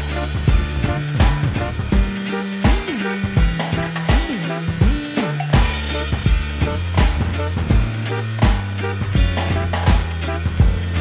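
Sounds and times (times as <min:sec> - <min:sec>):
bass line with gliding notes: 0:00.0 - 0:11.0
steady drum beat: 0:00.0 - 0:11.0.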